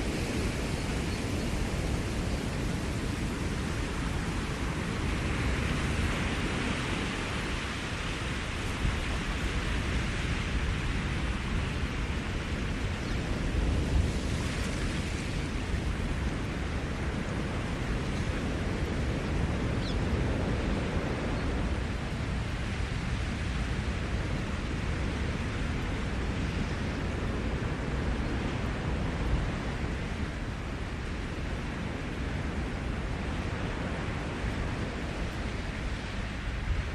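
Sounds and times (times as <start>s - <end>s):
ocean surf breaking on shore: 0.0s - 36.9s.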